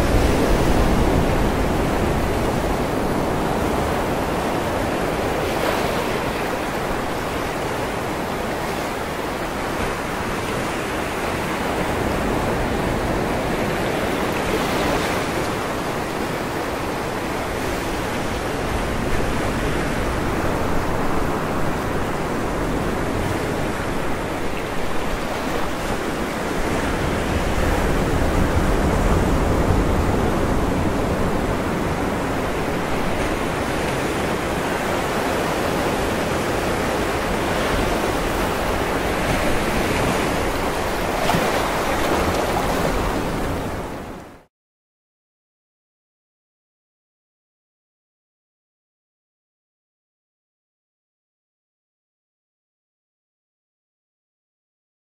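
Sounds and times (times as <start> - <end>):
sea waves breaking on shore: 0.0 - 44.5.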